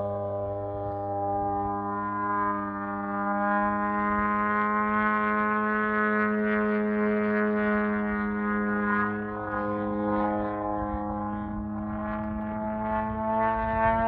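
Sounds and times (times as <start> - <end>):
engine running at high revs: 0.0 - 14.0.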